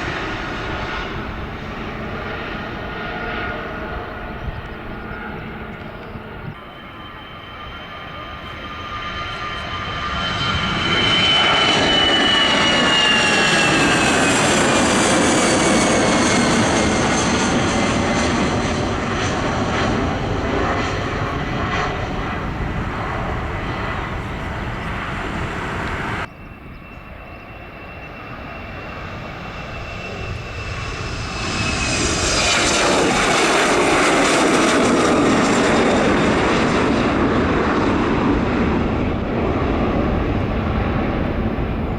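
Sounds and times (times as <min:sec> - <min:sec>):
jet airliner roaring past: 0:00.0 - 0:41.9.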